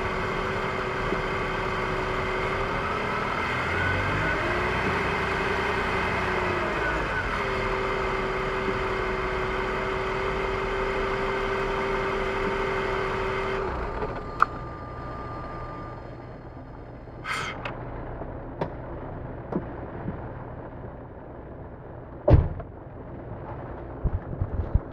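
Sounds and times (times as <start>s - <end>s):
car engine running: 0.0s - 24.9s.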